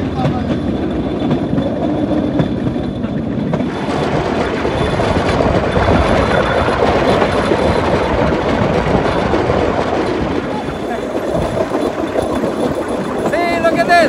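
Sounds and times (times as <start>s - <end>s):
wheels rattling over rails: 0.0s - 14.0s.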